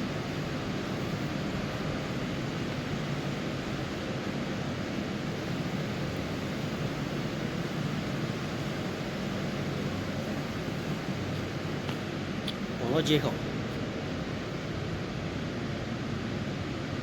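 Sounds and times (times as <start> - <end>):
refrigeration fans rushing air: 0.0 - 17.0.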